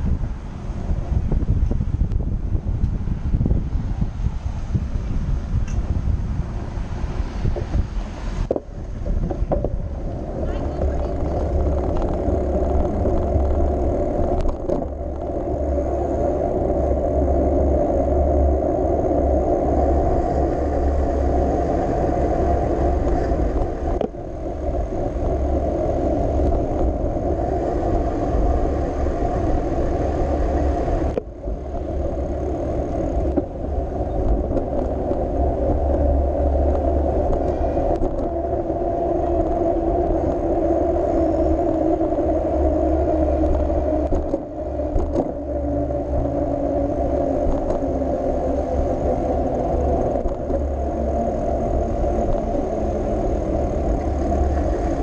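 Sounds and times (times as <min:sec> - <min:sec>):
bicycle tyre noise: 0:00.0 - 0:55.0
street traffic: 0:00.0 - 0:55.0
wind rumble on microphone: 0:00.0 - 0:55.0.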